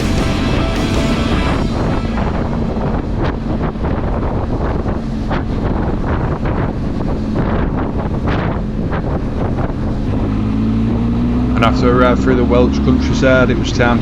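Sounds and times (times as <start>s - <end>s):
wind buffeting microphone: 0.0s - 12.6s
motorcycle engine drone: 0.0s - 14.0s.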